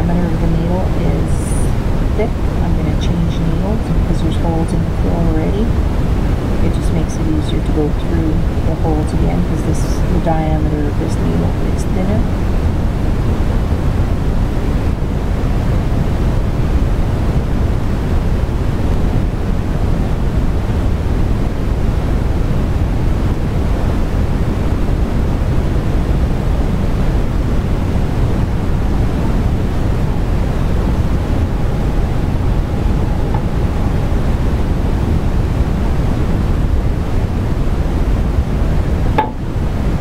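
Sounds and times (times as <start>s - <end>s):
steady low rushing noise: 0.0s - 40.0s.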